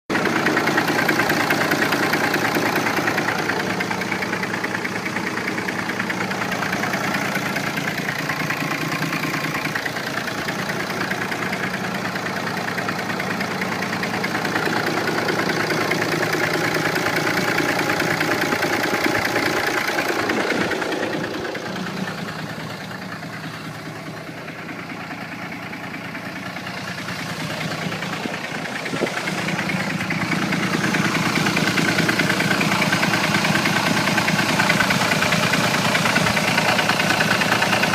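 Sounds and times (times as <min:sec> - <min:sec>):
diesel engine idling with knocking: 0:00.0 - 0:37.9.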